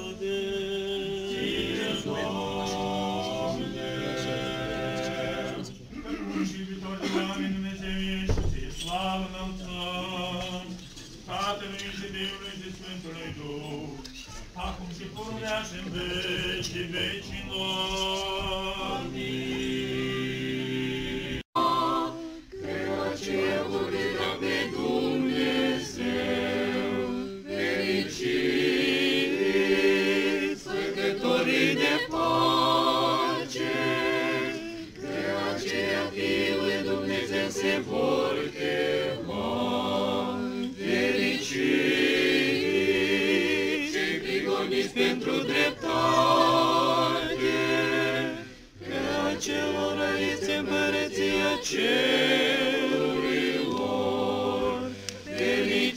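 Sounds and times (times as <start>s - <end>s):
choir singing chant a cappella: 0.0s - 55.9s.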